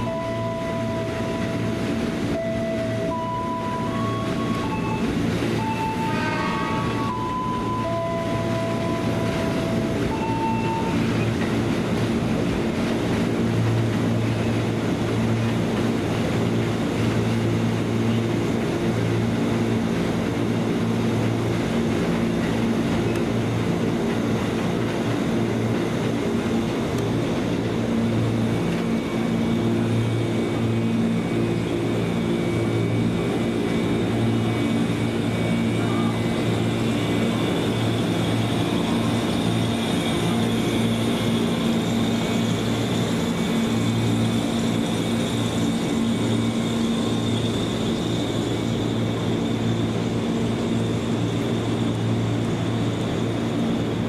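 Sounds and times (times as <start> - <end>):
train equipment humming: 0.0 - 54.0.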